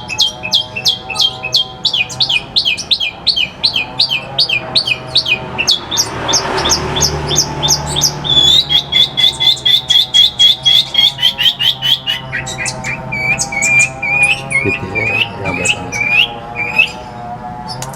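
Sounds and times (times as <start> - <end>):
bird singing sharp repeated notes: 0.0 - 17.9.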